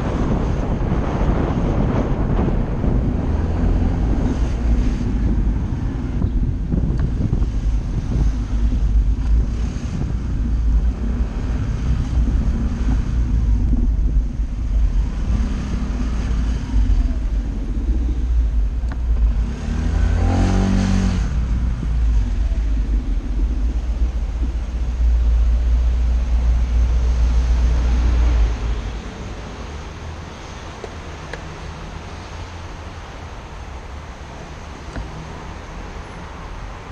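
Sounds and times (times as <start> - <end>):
vehicle passing close: 0.0 - 33.0
wind rumbling on camera: 0.0 - 36.9.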